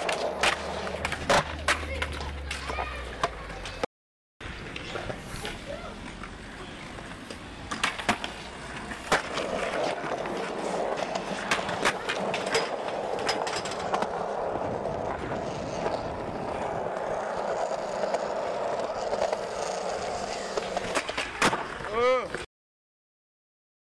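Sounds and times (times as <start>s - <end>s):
skateboard clacks: 0.0s - 22.4s
skateboard wheels rolling on concrete: 0.0s - 22.5s.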